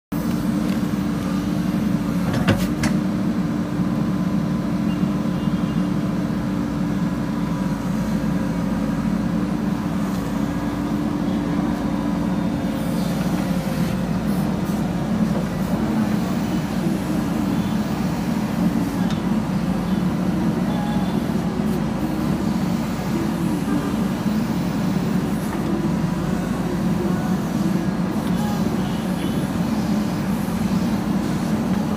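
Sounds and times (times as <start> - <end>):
diesel engine under load: 0.1 - 31.9.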